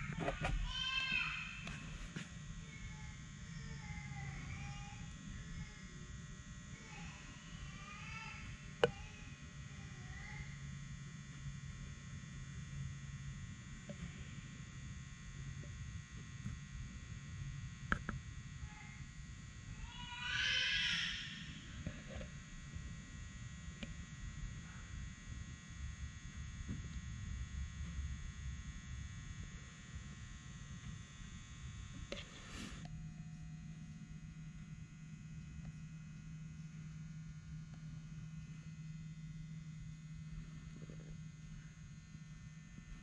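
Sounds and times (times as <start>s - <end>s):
low electrical hum: 0.0s - 43.0s.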